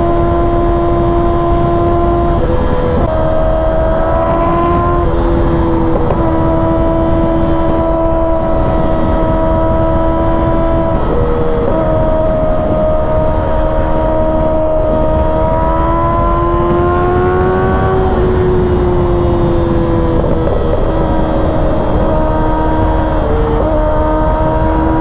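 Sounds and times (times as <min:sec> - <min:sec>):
motorcycle engine at speed: 0:00.0 - 0:25.0
wind rushing: 0:00.0 - 0:25.0.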